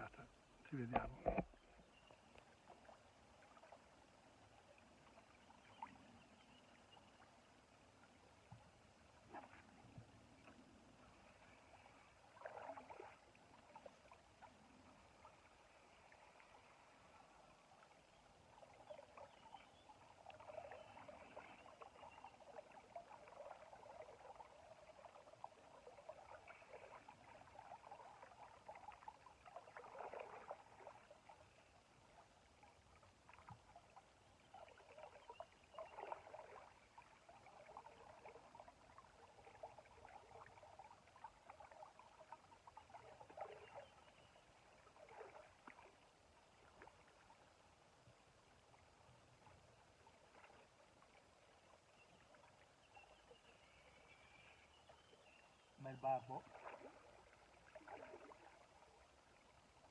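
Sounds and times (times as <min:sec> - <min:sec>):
river water trickling: 0:00.0 - 0:59.9.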